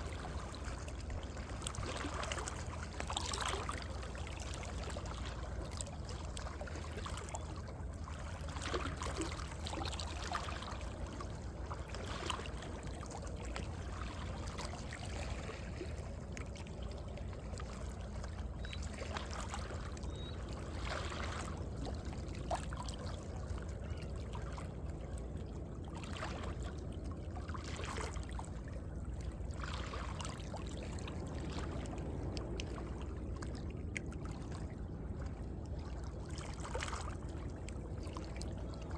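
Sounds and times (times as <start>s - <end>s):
waves lapping between rocks: 0.0s - 23.7s, 25.9s - 38.9s
water splashes: 0.0s - 38.9s.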